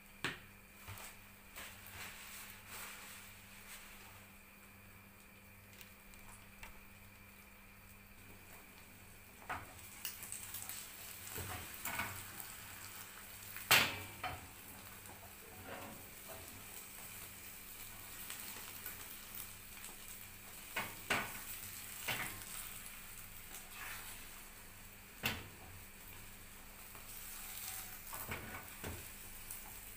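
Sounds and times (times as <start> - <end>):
egg sizzling in frying pan: 5.1 - 29.9.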